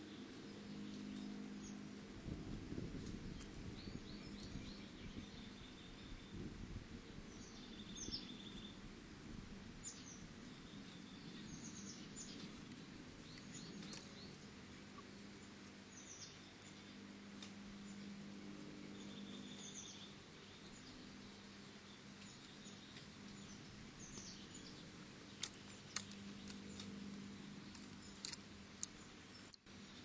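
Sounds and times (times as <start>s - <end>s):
small birds chirping: 0.0s - 8.9s, 9.7s - 30.0s.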